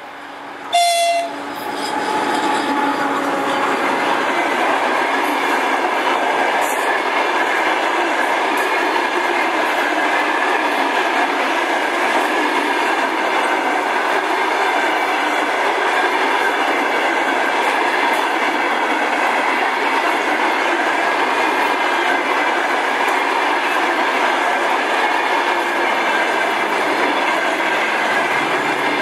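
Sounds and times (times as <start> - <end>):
train wheels rolling on rails: 0.0 - 29.0.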